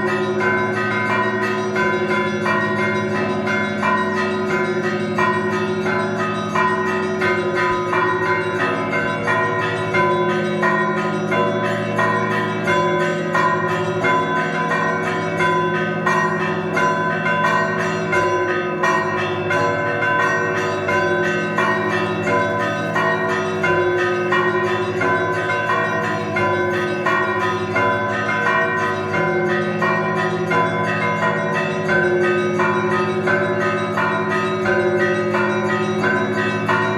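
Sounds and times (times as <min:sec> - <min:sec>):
church bells ringing: 0:00.0 - 0:36.9.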